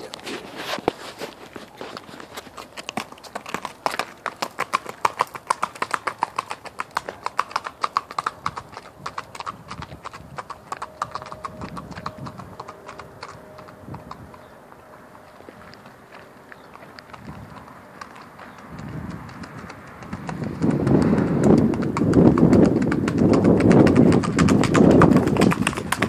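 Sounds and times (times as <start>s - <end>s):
hooves clip-clopping on hard ground: 0.0s - 26.0s.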